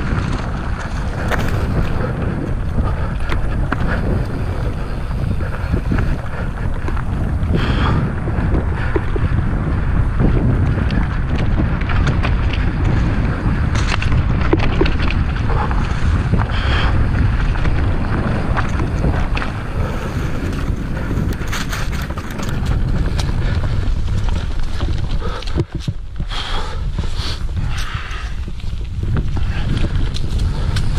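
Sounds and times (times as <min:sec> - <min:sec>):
bike clicks and rattles: 0:00.0 - 0:30.9
wind buffeting microphone: 0:00.0 - 0:30.9.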